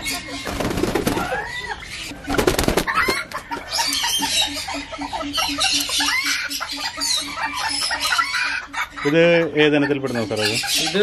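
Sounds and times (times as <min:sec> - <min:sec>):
birds chirping: 0:00.0 - 0:11.0
fowl clucking: 0:00.0 - 0:11.0.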